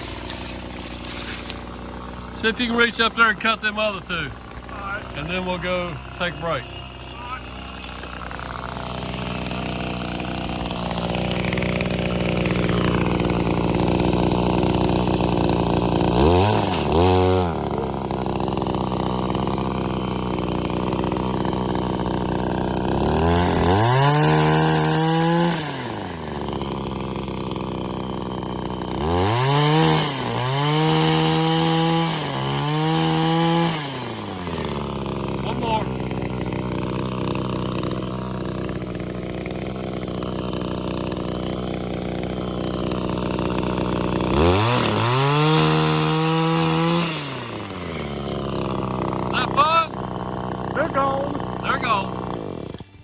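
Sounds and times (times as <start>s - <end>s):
pole saw engine revving: 0.0s - 53.0s.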